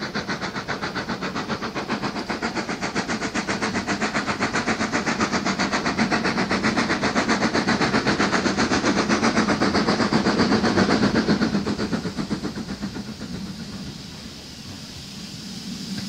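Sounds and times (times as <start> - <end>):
steady steam hiss: 0.0 - 16.0
steam locomotive exhaust beats: 0.0 - 16.0.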